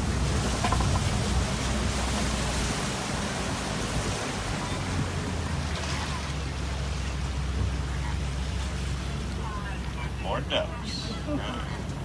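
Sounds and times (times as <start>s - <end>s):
tyres on road: 0.0s - 12.0s.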